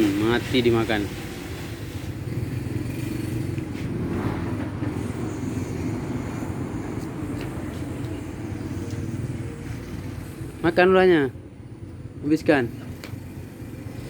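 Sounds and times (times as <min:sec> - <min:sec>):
small engine humming: 0:00.0 - 0:14.0.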